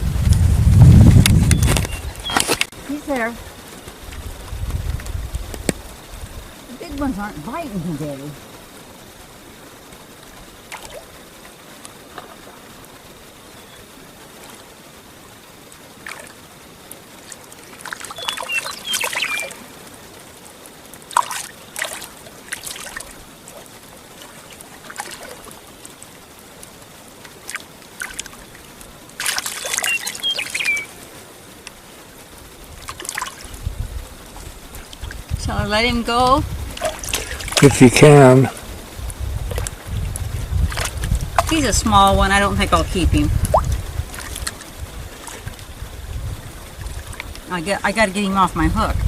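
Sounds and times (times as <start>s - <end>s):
water splashing: 0.0s - 49.0s
water trickling and lapping: 0.0s - 49.0s.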